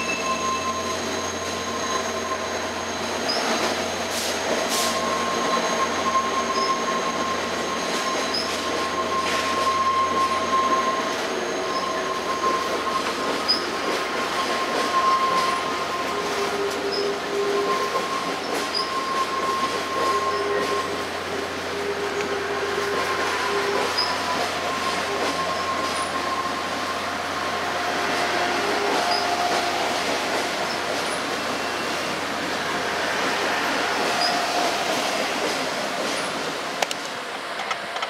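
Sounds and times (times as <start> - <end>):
train rumble: 0.0 - 38.0
train wheels squealing on rails: 0.0 - 38.0.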